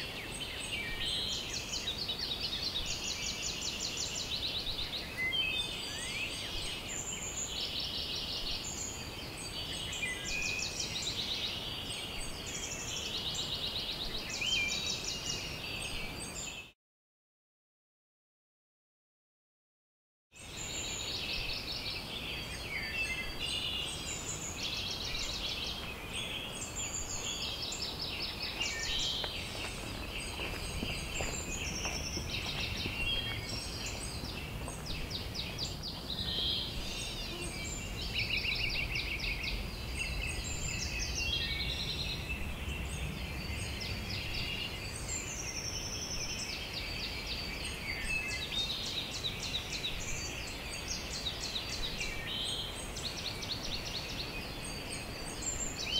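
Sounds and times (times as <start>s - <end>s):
songbirds chorus: 0.0s - 16.8s, 20.4s - 55.9s.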